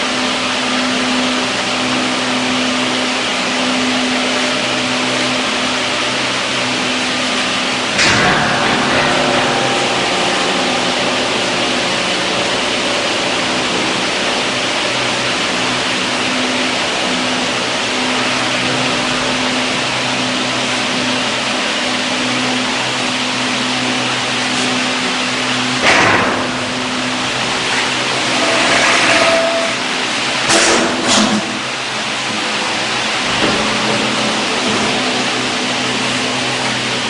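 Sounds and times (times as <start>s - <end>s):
low machinery hum: 0.0s - 37.0s.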